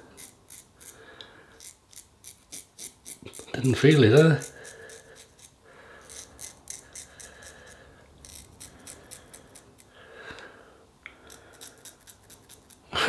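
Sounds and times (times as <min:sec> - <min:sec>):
razor scraping stubble: 0:00.0 - 0:10.0, 0:11.2 - 0:13.0.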